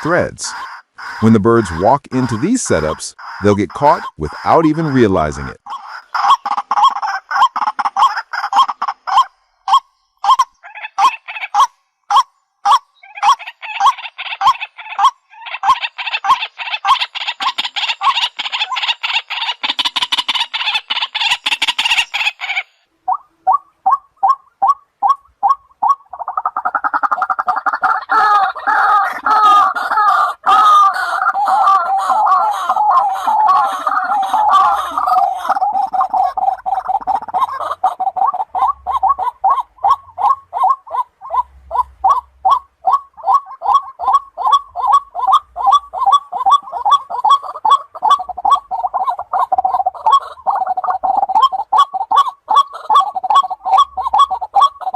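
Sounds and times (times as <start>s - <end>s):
waterhen calling: 0.0s - 54.9s.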